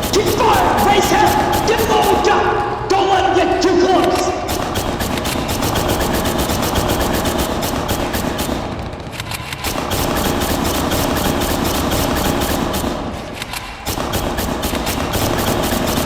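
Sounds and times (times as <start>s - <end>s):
automatic gunfire: 0.0s - 16.0s.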